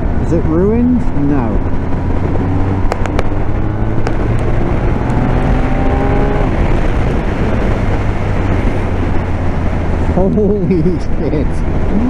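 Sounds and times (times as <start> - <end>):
motorcycle engine accelerating: 0.0 - 12.0
wind rush: 0.0 - 12.0.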